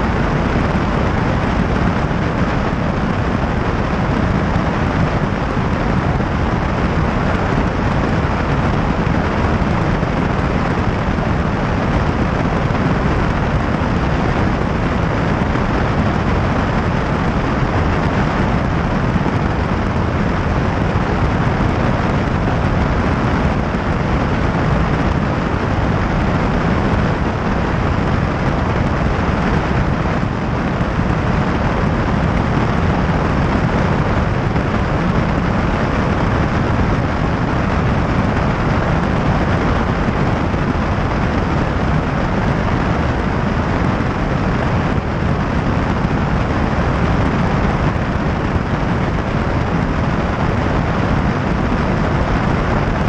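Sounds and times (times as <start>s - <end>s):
aircraft cabin engine rumble: 0.0s - 53.0s.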